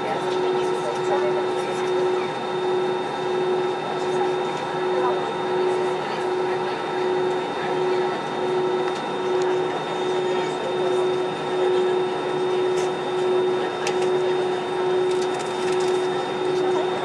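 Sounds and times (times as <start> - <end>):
jet engines idling: 0.0 - 17.0
pulsing held tone: 0.0 - 17.0.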